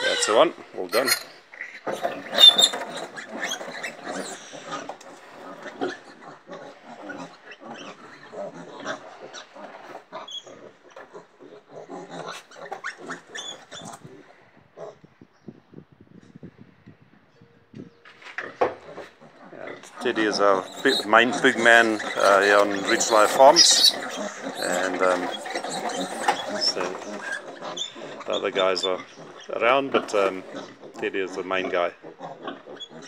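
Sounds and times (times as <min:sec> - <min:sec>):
piglets squealing: 0:00.0 - 0:15.0, 0:18.4 - 0:33.0
piglets grunting: 0:00.0 - 0:15.2, 0:18.2 - 0:33.0.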